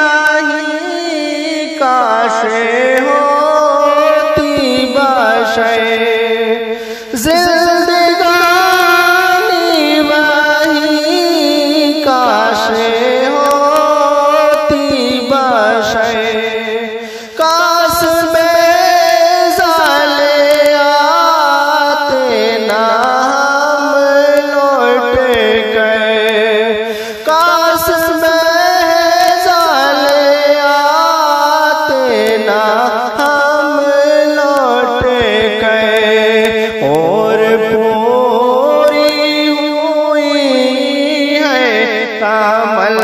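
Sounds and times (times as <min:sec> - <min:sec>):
person singing wordless melody: 0:00.0 - 0:43.0.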